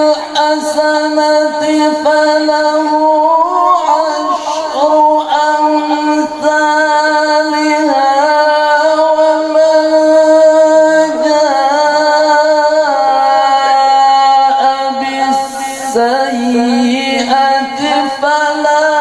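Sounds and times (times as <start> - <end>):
man's melodic recitation: 0.0 - 19.0.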